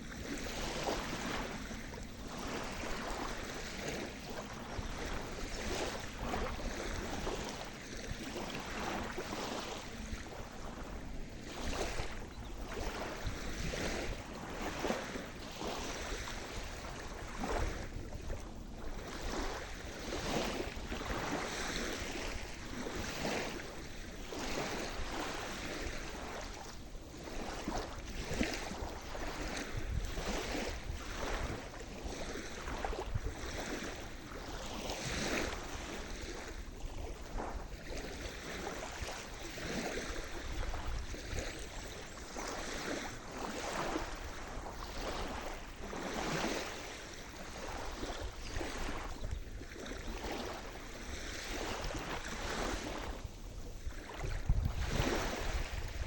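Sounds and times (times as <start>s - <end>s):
sea surf washing on shore: 0.0s - 56.0s
water splashes: 0.0s - 56.0s.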